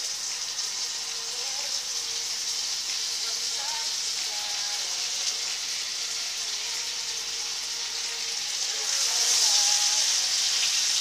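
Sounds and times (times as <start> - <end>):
fish sizzling in frying pan: 0.0 - 11.0.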